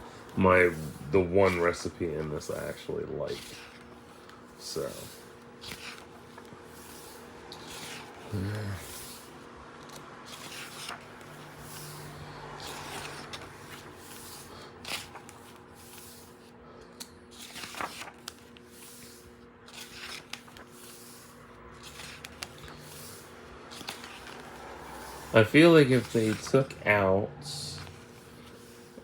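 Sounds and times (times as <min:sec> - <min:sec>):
book pages turning: 0:00.0 - 0:29.0
faint steady hum: 0:00.0 - 0:29.0.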